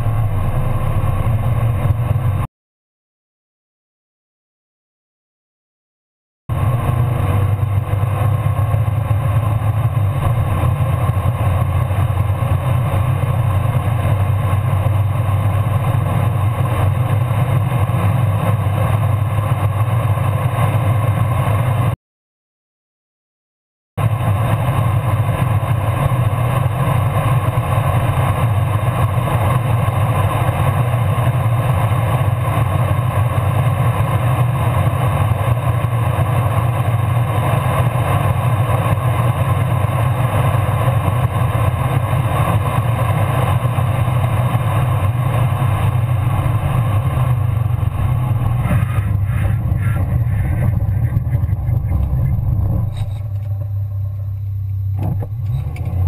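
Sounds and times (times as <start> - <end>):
car engine drone: 0.0 - 2.5, 6.5 - 22.0, 24.0 - 56.0
road noise: 0.0 - 2.5, 6.5 - 22.0, 24.0 - 56.0.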